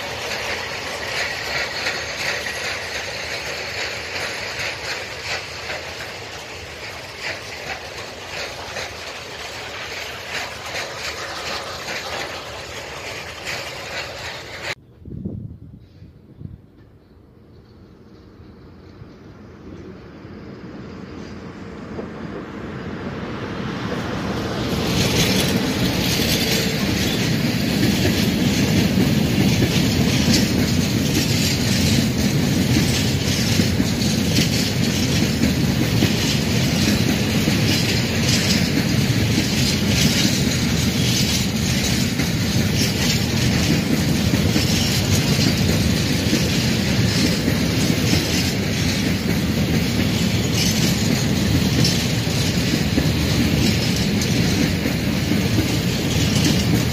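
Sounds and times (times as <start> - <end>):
wheels clattering over rail joints: 0.0 - 14.8, 24.2 - 56.9
freight train rumbling past: 0.0 - 56.9.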